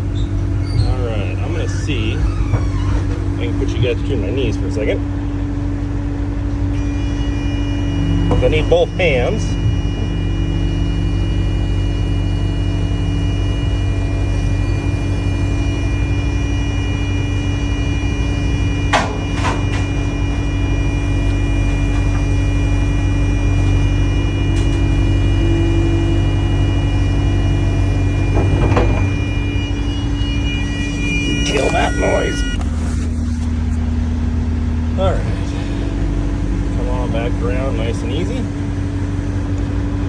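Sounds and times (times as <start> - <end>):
creaking squeals: 0.0 - 5.2, 6.6 - 34.0
excavator diesel engine running: 0.0 - 40.0.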